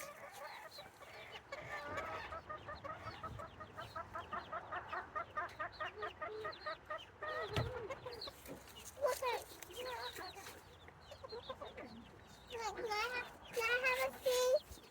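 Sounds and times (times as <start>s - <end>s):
hens clucking: 0.0s - 14.9s.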